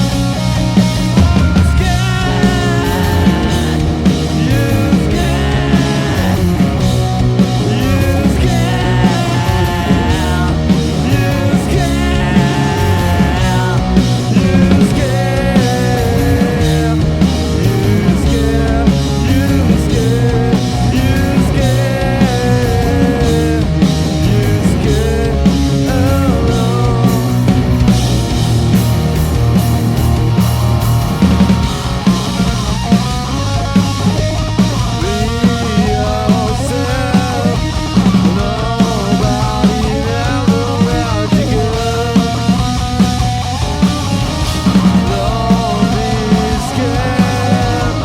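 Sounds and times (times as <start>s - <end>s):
rock band playing live: 0.0s - 48.0s.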